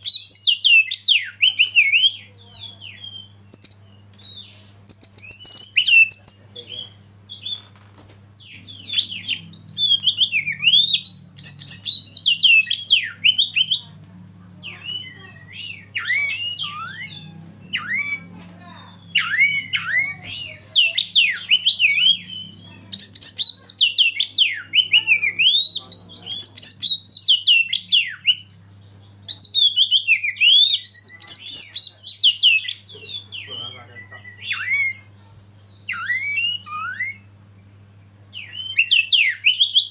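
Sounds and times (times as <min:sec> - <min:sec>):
bird singing whistled notes: 0:00.0 - 0:07.7, 0:08.4 - 0:13.9, 0:14.6 - 0:39.9
faint low hum: 0:00.0 - 0:39.7.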